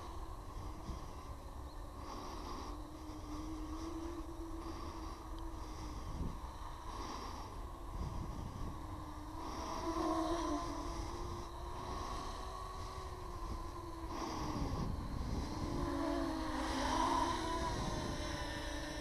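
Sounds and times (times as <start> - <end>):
drone propellers humming: 0.0 - 19.0
wind rumbling on microphone: 0.0 - 19.0.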